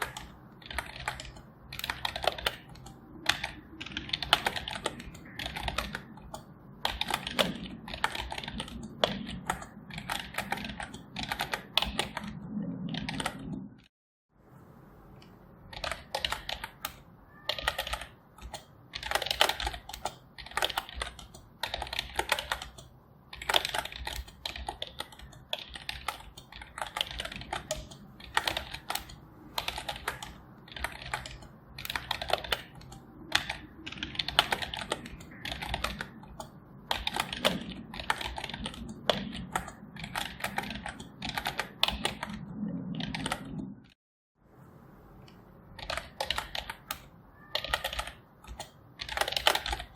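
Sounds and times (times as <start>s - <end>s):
typing on computer keyboard: 0.0s - 13.7s, 15.7s - 44.0s, 45.3s - 49.9s.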